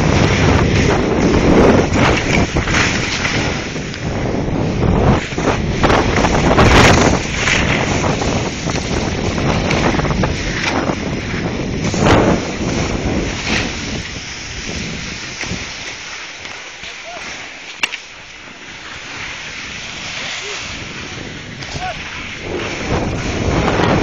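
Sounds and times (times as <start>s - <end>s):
wind rushing over microphone: 0.0s - 16.1s, 18.2s - 24.0s
sliding on snow: 0.0s - 24.0s.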